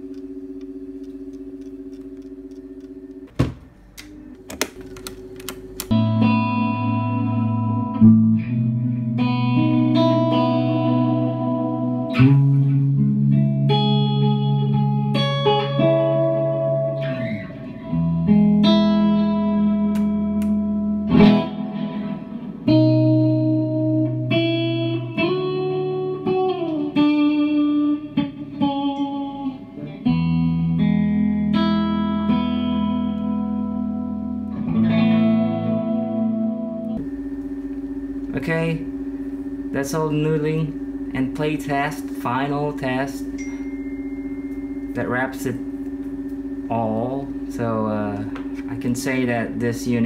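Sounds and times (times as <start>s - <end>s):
electric guitar with tape echo: 0.0s - 50.0s.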